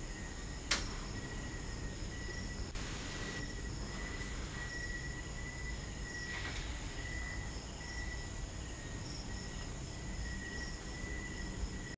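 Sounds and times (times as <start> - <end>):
crickets trilling: 0.0 - 11.9
low background rumble: 0.0 - 11.9.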